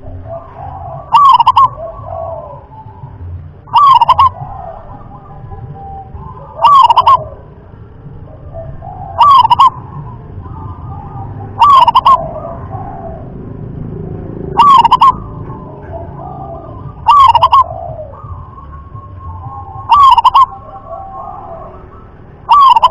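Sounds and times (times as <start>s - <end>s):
dove cooing song: 0.0s - 22.9s.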